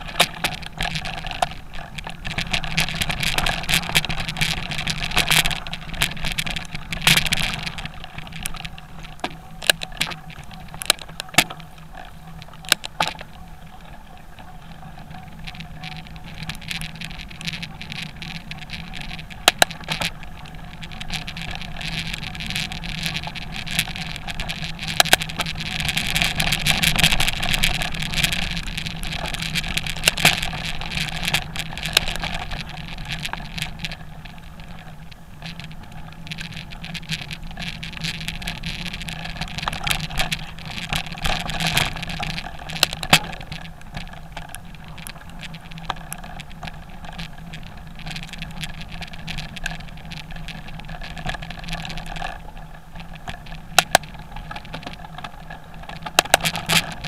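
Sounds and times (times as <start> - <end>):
sharp clicks and knocks: 0.0 - 13.4, 15.4 - 20.2, 20.9 - 52.4, 53.0 - 57.0.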